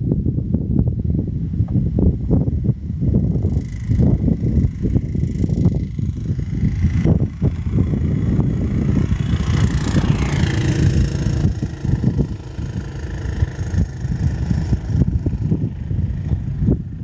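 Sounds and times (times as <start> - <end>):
light aircraft engine passing: 3.0 - 17.0.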